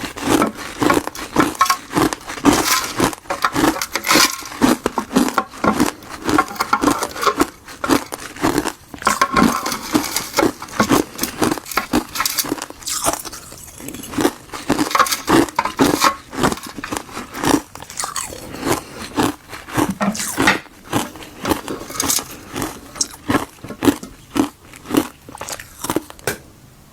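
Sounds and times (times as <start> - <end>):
chewing crunchy ice: 0.0 - 26.2.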